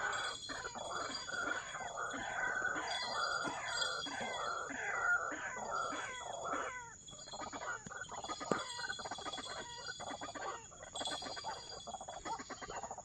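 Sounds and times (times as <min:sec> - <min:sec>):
rapid chattering bird calls: 0:00.0 - 0:13.0
waterhen croaks: 0:00.0 - 0:13.0.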